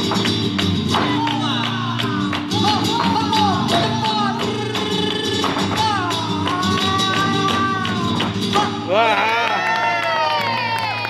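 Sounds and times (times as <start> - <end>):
acoustic guitar: 0.0 - 11.0
rhythmic hand-clapping: 0.0 - 11.0.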